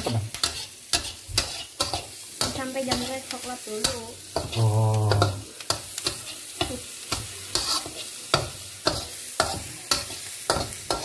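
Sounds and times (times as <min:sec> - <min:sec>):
metal spatula scraping a wok: 0:00.0 - 0:11.0
vegetables sizzling: 0:00.0 - 0:11.0.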